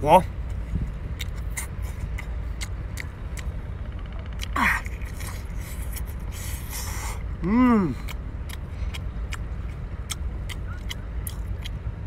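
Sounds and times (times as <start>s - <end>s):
low rumble: 0.0s - 12.0s
man eating crab legs: 1.2s - 3.6s, 4.4s - 11.9s.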